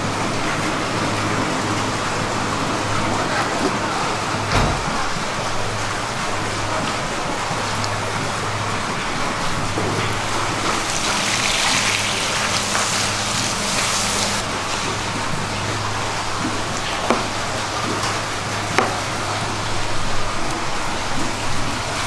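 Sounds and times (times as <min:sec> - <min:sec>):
running water splashing: 0:00.0 - 0:22.0.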